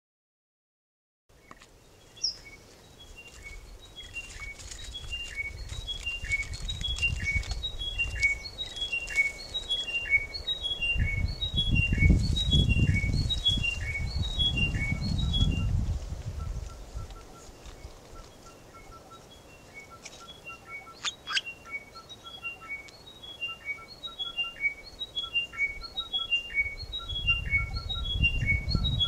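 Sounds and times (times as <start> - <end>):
bird singing chiming notes: 3.3 - 15.7, 18.2 - 29.0.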